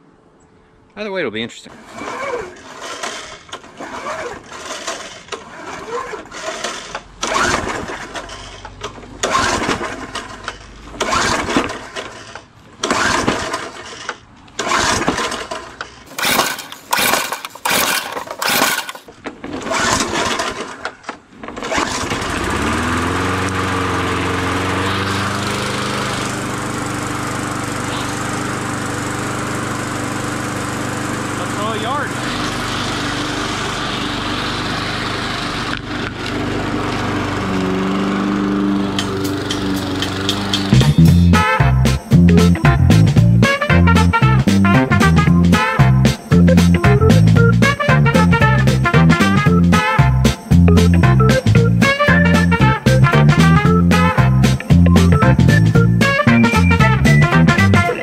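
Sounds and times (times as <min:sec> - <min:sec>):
lawn mower engine pull-starting: 0:01.6 - 0:44.4, 0:45.0 - 0:58.0
lawn mower engine running: 0:01.7 - 0:20.9, 0:21.6 - 0:58.0.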